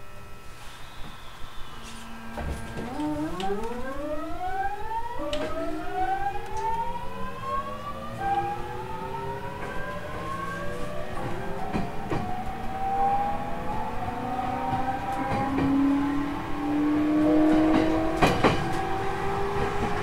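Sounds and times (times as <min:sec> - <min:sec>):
train motors whining: 0:00.0 - 0:20.0.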